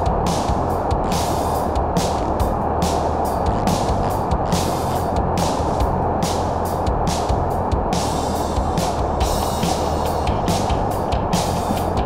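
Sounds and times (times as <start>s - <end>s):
background music: 0.0s - 12.0s
steady rushing noise: 0.0s - 12.0s.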